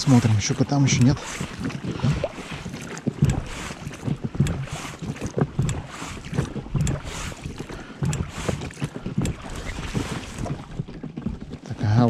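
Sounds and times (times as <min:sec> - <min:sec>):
oar strokes: 0:00.0 - 0:12.0
oars knocking: 0:00.0 - 0:12.0.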